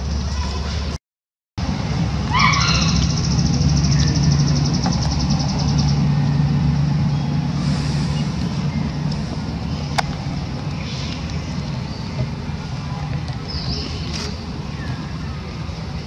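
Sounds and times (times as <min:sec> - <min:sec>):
low motor rumble: 0:01.6 - 0:16.0.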